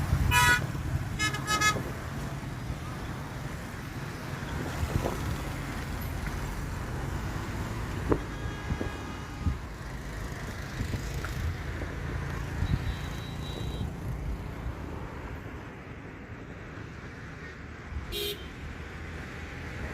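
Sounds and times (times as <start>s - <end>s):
road traffic: 0.0s - 19.9s.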